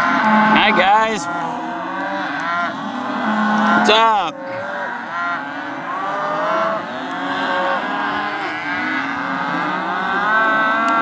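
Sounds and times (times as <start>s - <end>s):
calves bawling: 0.0s - 11.0s.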